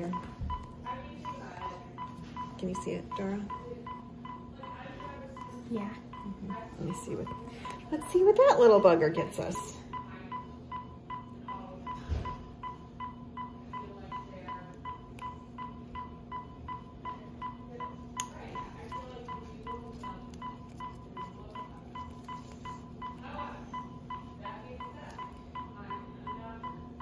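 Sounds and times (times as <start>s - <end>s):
monitor beeping: 0.0s - 27.0s.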